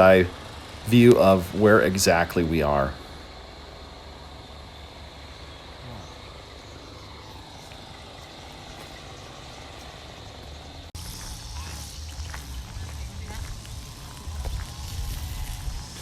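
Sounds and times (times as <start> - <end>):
distant traffic rumble: 0.0 - 16.0
faint high insect hum: 0.0 - 16.0.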